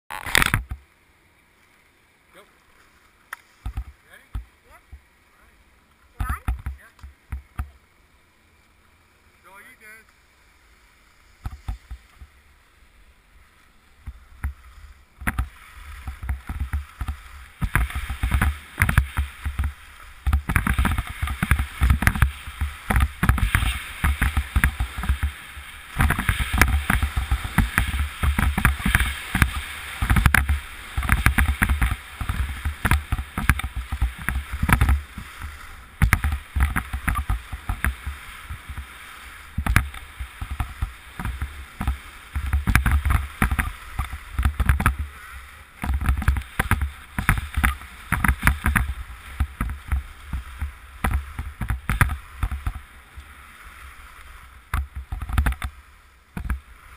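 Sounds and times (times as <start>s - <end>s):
skis scraping on snow: 9.4s - 56.9s.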